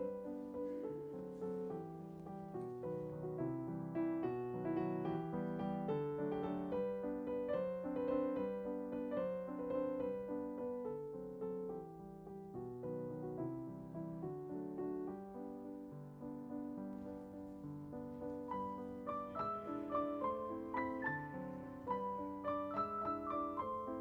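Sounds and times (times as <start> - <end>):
gentle piano piece: 0.0 - 24.0.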